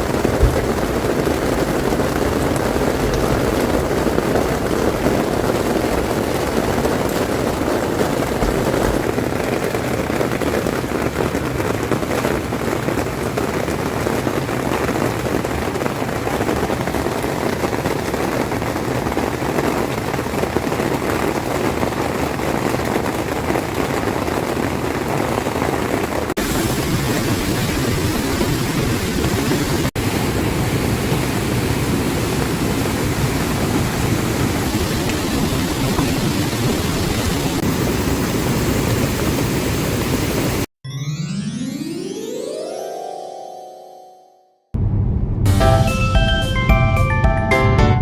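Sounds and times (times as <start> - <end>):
water rushing: 0.0 - 21.9, 22.6 - 40.7.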